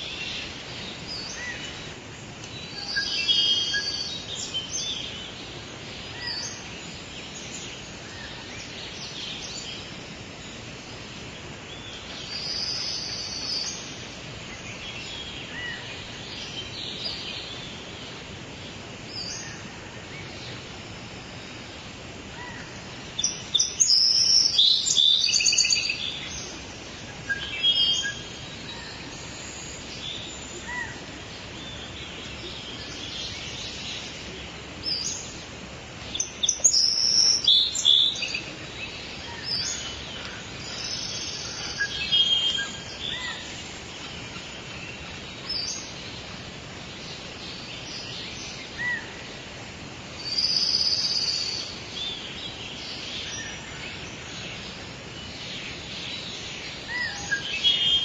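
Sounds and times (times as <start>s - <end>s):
outdoor background hiss: 0.0s - 58.0s
songbirds singing and chirping: 0.0s - 58.0s.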